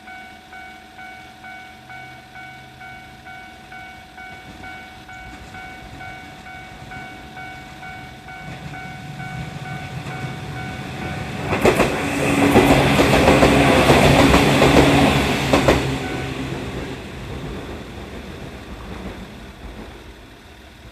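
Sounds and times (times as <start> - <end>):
level crossing alarm ringing: 0.0 - 18.4
train wheels clacking on rail joints: 3.7 - 20.9.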